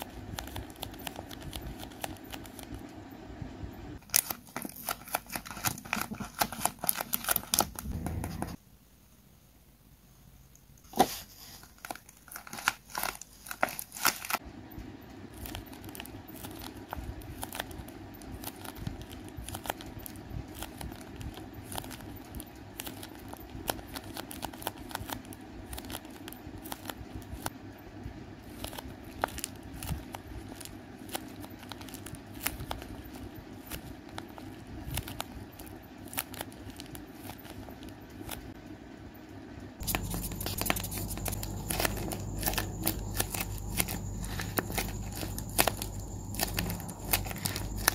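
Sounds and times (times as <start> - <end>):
paper crinkling and crackling: 0.0 - 2.9, 4.0 - 8.6, 10.8 - 14.4, 15.3 - 27.5, 28.4 - 38.6, 39.8 - 47.9
low background noise: 0.0 - 47.9.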